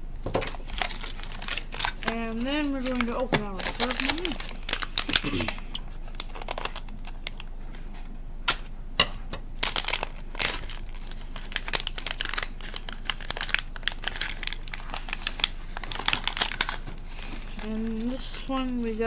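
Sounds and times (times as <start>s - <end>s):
foil wrapper crinkling: 0.2s - 7.6s, 9.6s - 19.0s.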